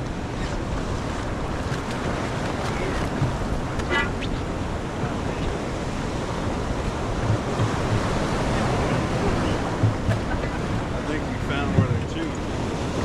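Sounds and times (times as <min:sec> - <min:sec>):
waves washing: 0:00.0 - 0:13.0
wind rumbling on microphone: 0:00.0 - 0:13.0.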